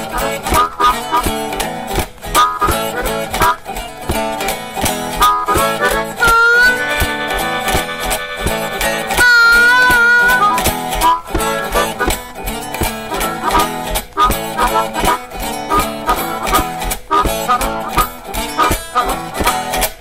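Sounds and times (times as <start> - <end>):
guitar: 0.0 - 20.0
harmonica: 0.0 - 20.0
steady drum beat: 0.1 - 20.0.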